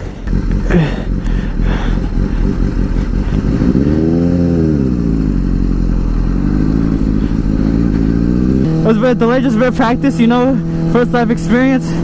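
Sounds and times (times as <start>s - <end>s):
low road rumble: 0.0s - 12.0s
motorcycle engine revving: 0.0s - 12.0s.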